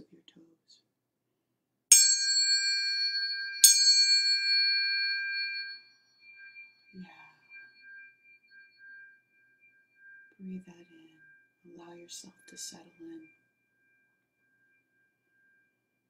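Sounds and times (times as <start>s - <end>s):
tuning fork strike and ring: 1.9s - 16.0s.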